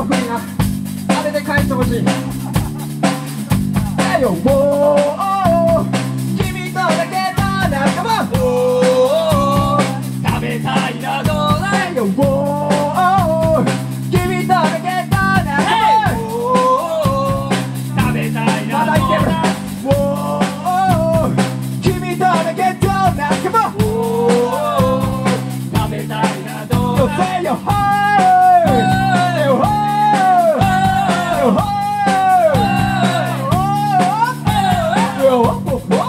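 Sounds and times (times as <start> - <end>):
bass guitar: 0.0 - 36.0
man singing: 0.0 - 36.0
steady drum beat: 0.0 - 36.0
electric guitar: 1.8 - 36.0.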